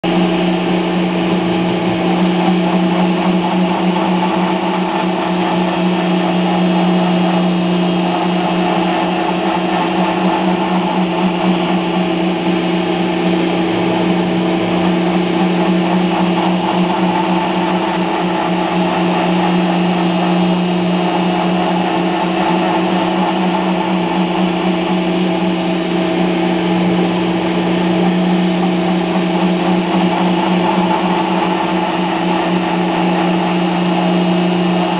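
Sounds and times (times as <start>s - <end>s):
router spindle whine: 0.0s - 34.9s.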